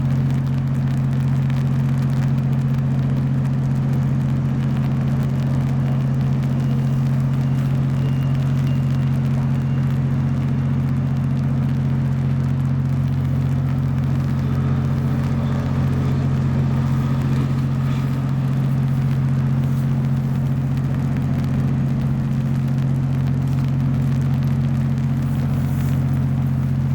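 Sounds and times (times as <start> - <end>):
low engine drone: 0.0 - 26.9.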